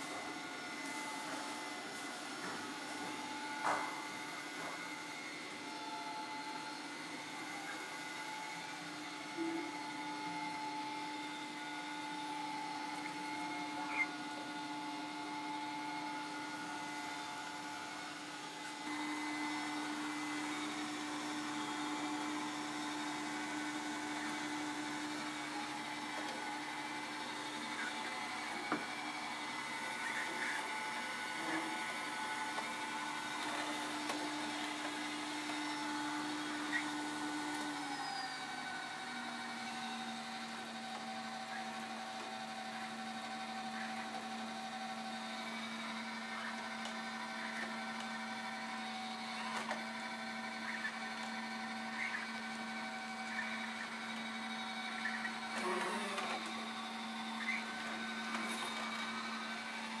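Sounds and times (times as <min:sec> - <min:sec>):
robot vacuum motor hum and whine: 0:00.0 - 1:00.0.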